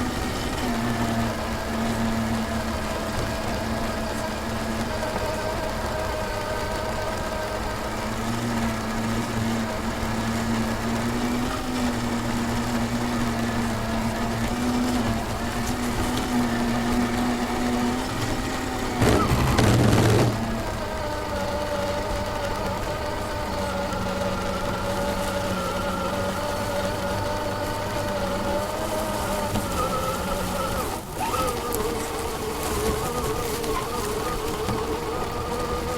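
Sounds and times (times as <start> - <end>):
rc truck motor whine: 0.0 - 35.9
rough motor burst: 0.0 - 35.9.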